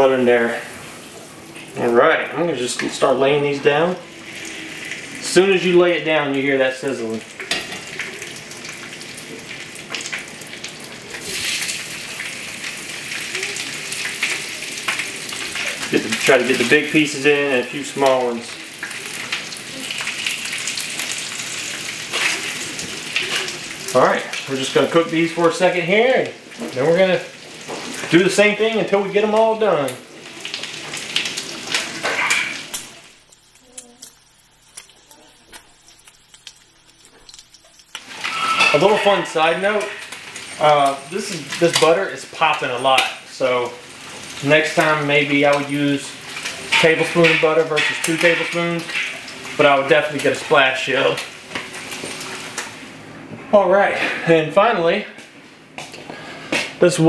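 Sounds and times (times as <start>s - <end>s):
meat sizzling in butter: 0.0s - 53.0s.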